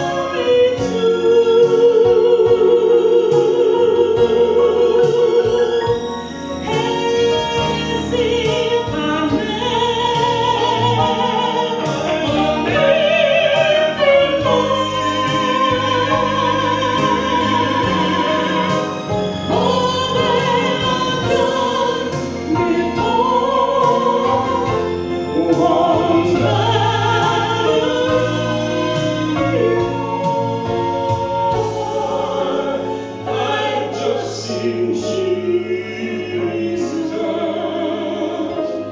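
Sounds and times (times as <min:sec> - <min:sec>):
instrumental accompaniment: 0:00.0 - 0:38.9
man and woman singing duet: 0:00.0 - 0:38.9.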